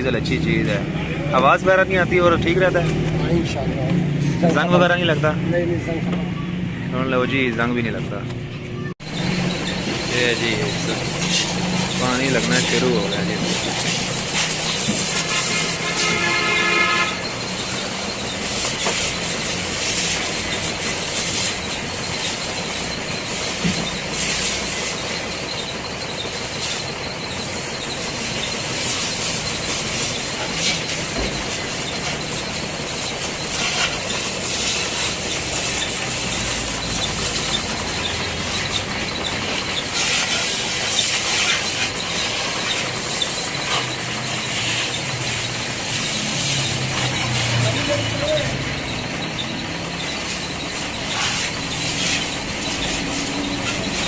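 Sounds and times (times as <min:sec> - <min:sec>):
pressure washer spraying: 0:09.1 - 0:54.0.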